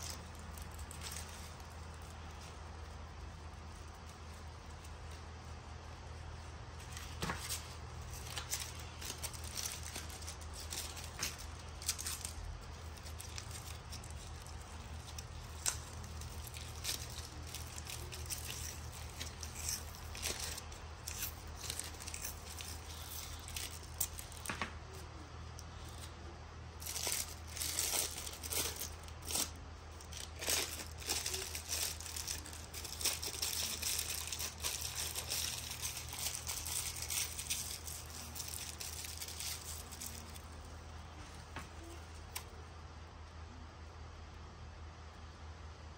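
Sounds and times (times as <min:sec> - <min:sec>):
cellophane wrapper crinkling: 0:00.0 - 0:26.1, 0:26.7 - 0:40.9
masking tape rustling: 0:00.0 - 0:42.8
steady low hum: 0:00.0 - 0:45.9.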